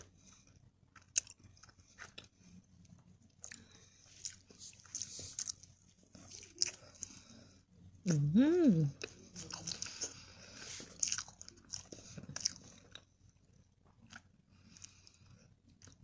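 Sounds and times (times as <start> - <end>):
chewing soft dessert: 0.0 - 16.0.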